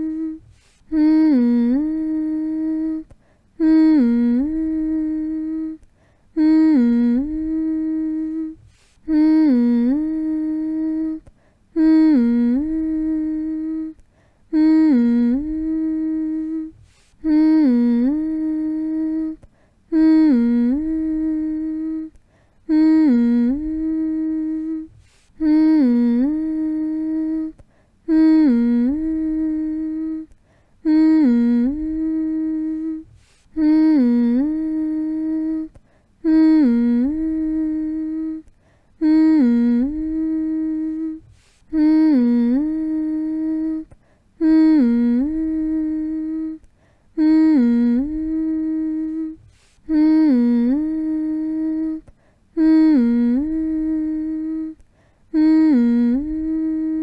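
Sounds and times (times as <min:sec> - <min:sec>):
person humming: 0:00.0 - 0:57.0.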